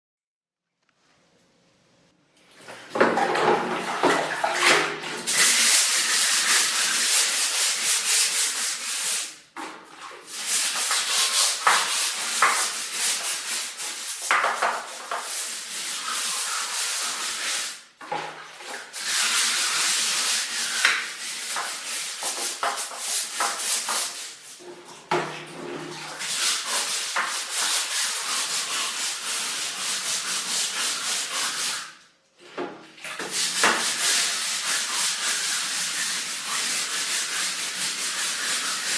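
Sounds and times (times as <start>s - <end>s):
scrubbing brush scratching: 3.2s - 9.4s, 10.2s - 17.8s, 18.5s - 24.6s, 25.3s - 31.8s, 33.2s - 38.9s.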